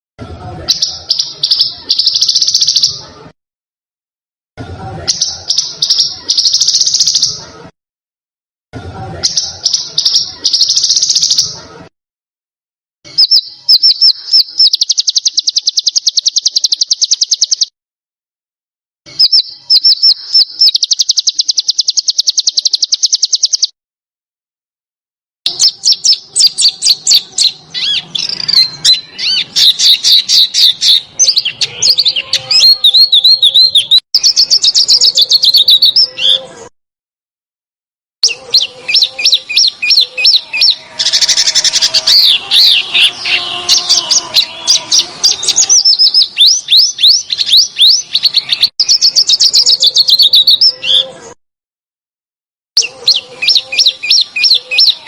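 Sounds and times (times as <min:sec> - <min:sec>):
songbird chirping and trilling: 0:00.3 - 0:03.3, 0:04.8 - 0:07.7, 0:08.9 - 0:11.9, 0:13.1 - 0:17.7, 0:19.1 - 0:23.7, 0:25.5 - 0:36.7, 0:38.2 - 0:51.4, 0:52.8 - 0:55.0.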